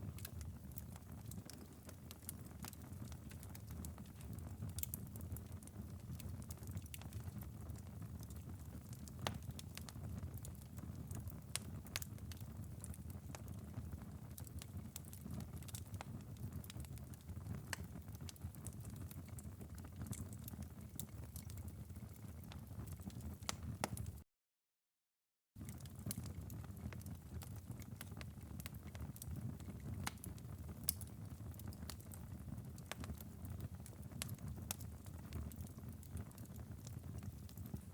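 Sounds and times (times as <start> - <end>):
fire crackles and pops: 0.0 - 24.2, 25.6 - 37.9.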